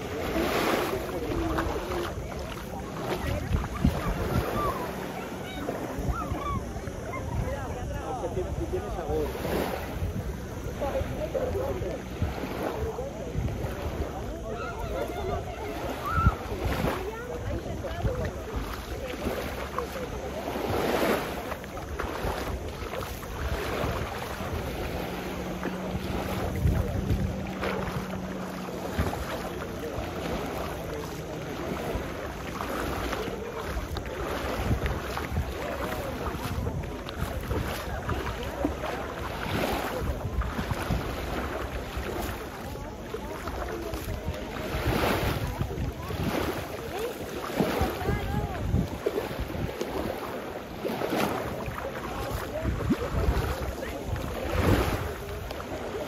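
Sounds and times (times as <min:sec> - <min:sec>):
waves washing on shore: 0:00.0 - 0:56.0
wind buffeting microphone: 0:00.0 - 0:56.0.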